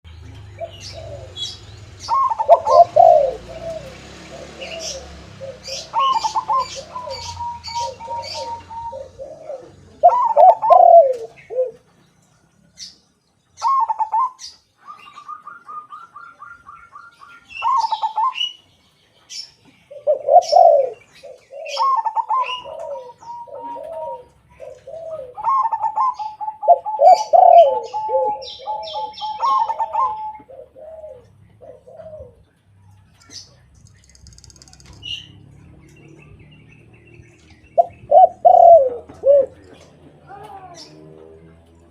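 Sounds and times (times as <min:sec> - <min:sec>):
dove trilled coos: 0:00.1 - 0:11.9, 0:13.6 - 0:18.6, 0:19.3 - 0:32.6, 0:34.0 - 0:41.5
dove low repeated coos: 0:00.1 - 0:12.0, 0:13.6 - 0:18.6, 0:19.9 - 0:32.6, 0:37.0 - 0:41.9.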